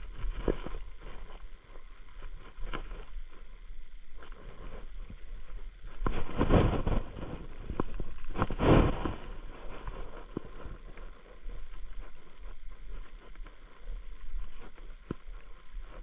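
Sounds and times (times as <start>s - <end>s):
camera rustling and scraping: 0.0s - 3.5s, 4.1s - 16.0s
footsteps in grass: 0.0s - 16.0s.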